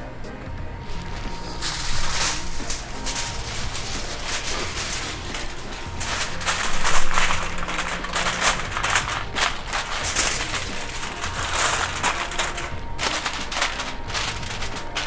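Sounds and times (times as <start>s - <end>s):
aluminium foil crinkling: 0.8s - 15.0s.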